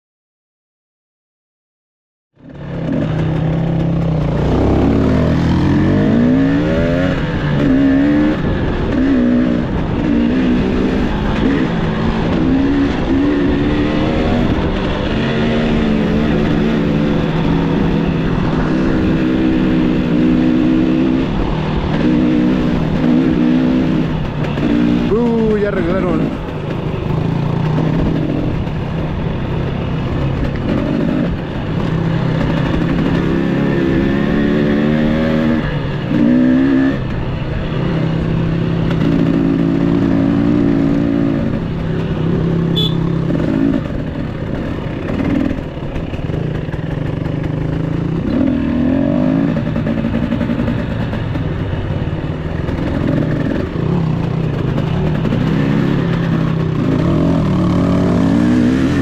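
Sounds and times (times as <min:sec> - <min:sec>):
dirt bike engine revving: 0:02.4 - 0:59.0.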